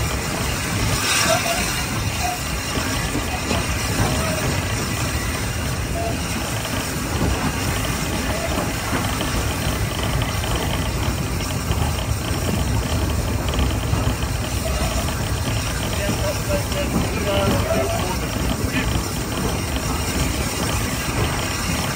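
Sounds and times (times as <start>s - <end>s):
steam locomotive running: 0.0s - 21.9s.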